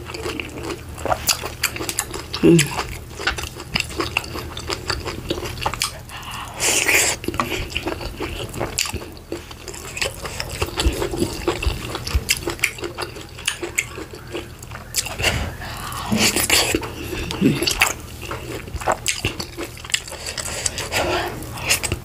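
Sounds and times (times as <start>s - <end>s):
wet chewing and lip smacks: 0.0s - 22.0s.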